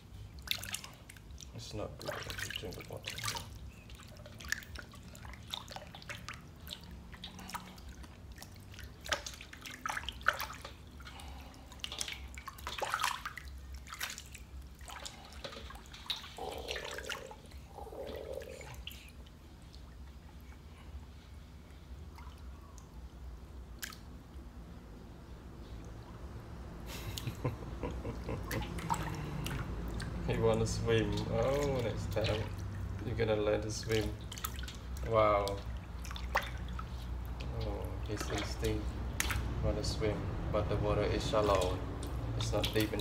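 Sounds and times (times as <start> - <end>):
water splashing in metal basin: 0.0 - 20.2, 28.3 - 43.0.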